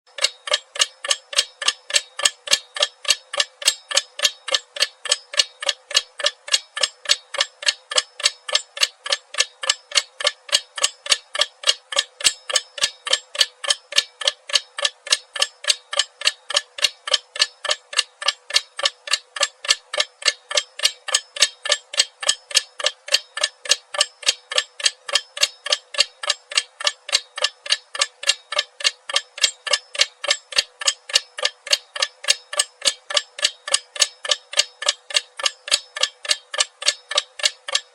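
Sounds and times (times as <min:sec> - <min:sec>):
clock ticking: 0:00.1 - 0:37.9.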